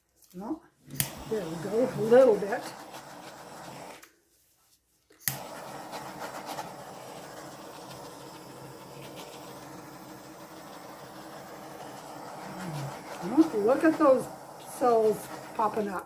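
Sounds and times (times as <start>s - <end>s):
butane torch hissing: 0.8s - 4.1s, 5.2s - 16.0s
torch click: 0.9s - 4.1s, 5.2s - 15.6s.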